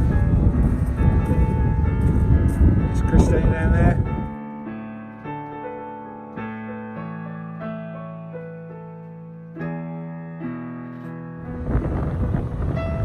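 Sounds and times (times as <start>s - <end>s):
soft slow piano chords: 0.0s - 13.0s.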